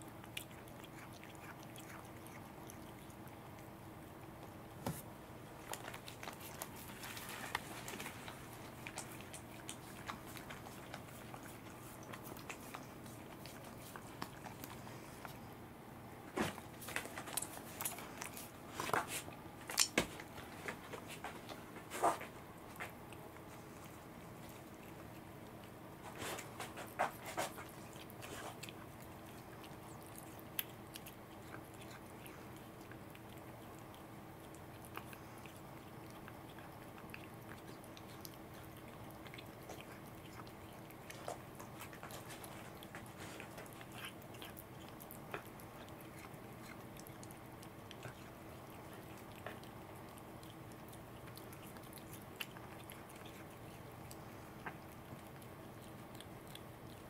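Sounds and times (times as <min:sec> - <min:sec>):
cat licking and chewing: 0:00.0 - 0:57.0.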